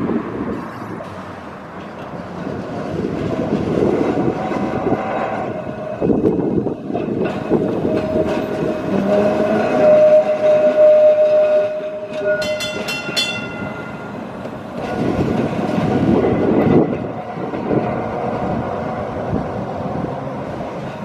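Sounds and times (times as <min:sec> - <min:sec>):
tram rumbling along track: 0:00.0 - 0:21.0
wheels squealing: 0:00.5 - 0:21.0.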